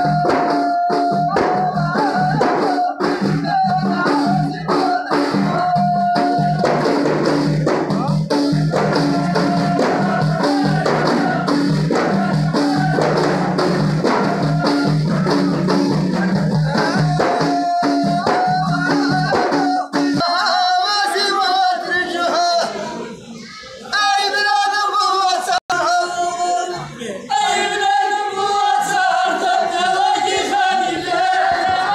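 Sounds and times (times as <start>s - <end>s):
frame drums beating: 0.0s - 21.4s, 27.7s - 31.9s
men singing together: 0.0s - 23.0s, 23.9s - 31.9s.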